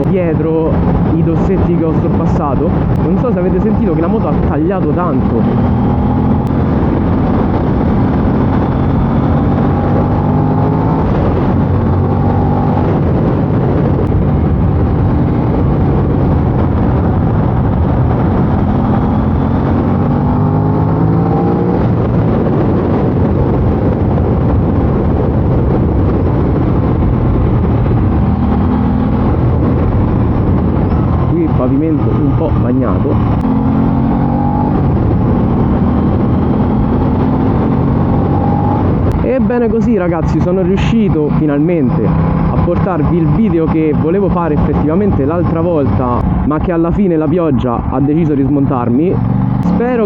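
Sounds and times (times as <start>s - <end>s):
motorcycle engine accelerating: 0.0s - 50.0s
wind and road noise: 0.0s - 50.0s.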